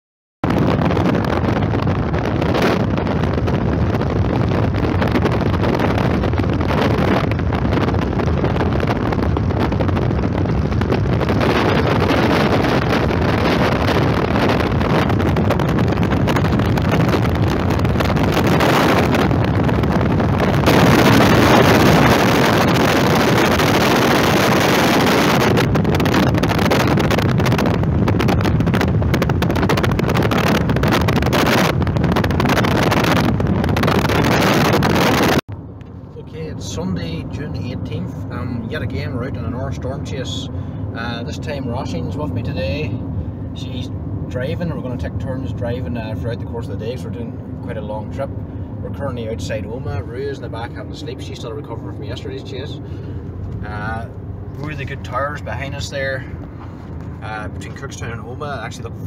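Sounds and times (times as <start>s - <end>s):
car rumble on road: 0.4s - 59.0s
wind on microphone: 0.4s - 59.0s.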